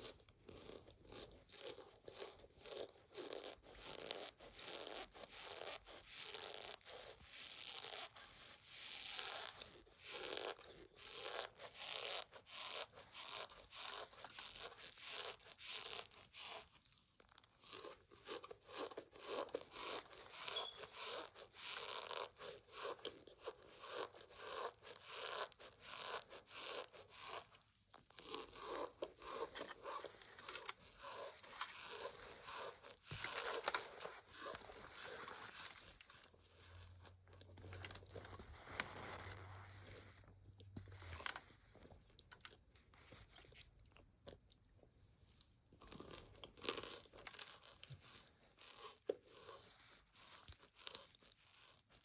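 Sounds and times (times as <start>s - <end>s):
chewing crunchy snack: 0.0s - 52.0s.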